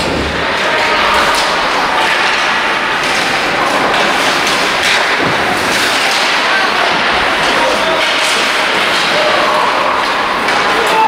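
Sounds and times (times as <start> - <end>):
hockey sticks and puck knocking: 0.0 - 11.0
skates scraping ice: 0.0 - 11.0.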